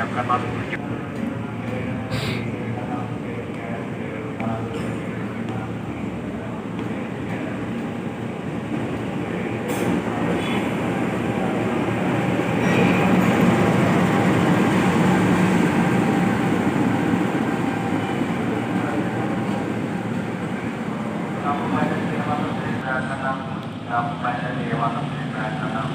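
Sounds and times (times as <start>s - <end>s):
train rumbling past: 0.0s - 25.9s.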